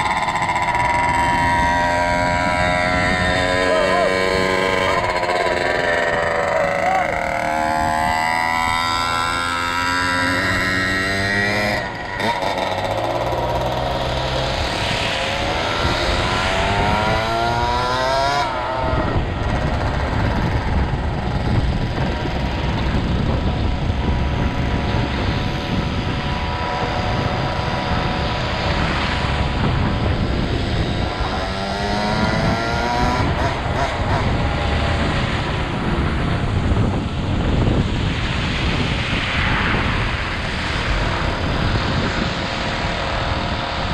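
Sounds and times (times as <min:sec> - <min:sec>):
dirt bike engine revving: 0:00.0 - 0:37.0
wind rumble on microphone: 0:00.0 - 0:43.9.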